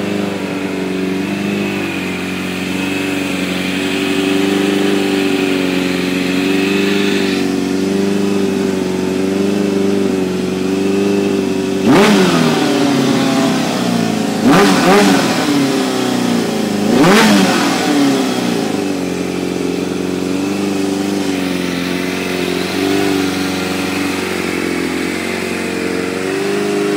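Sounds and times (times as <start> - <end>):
engine throttle blips: 0.0 - 26.9
motorcycle engine idling: 0.0 - 26.9.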